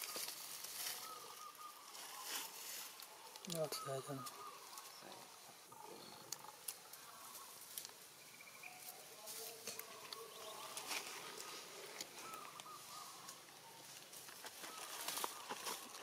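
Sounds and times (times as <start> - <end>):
dry leaves crackling: 0.0 - 5.4, 6.3 - 16.0
faint wavering animal calls: 0.0 - 16.0.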